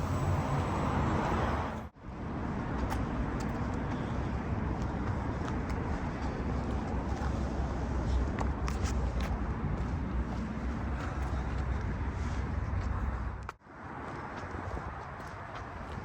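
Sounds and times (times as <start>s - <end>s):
steady traffic rumble: 0.0s - 16.0s.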